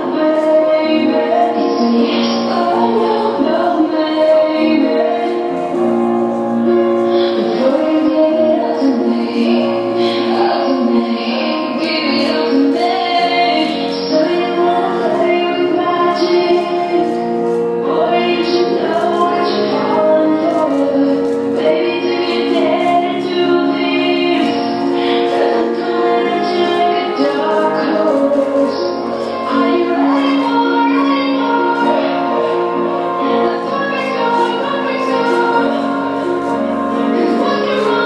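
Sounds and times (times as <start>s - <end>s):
woman singing: 0.0s - 6.0s, 6.6s - 38.0s
music accompaniment: 0.0s - 38.0s.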